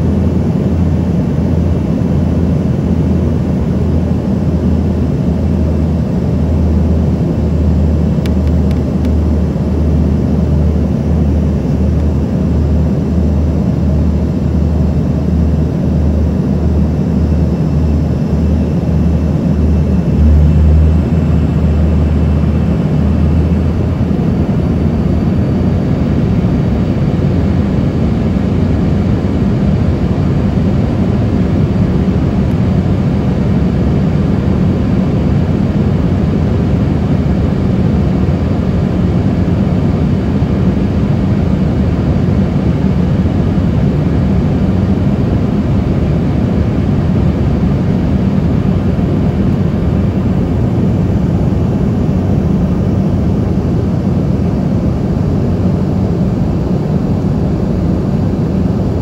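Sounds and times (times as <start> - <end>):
airliner cabin engine drone: 0.0 - 59.0
deep hum: 3.8 - 59.0.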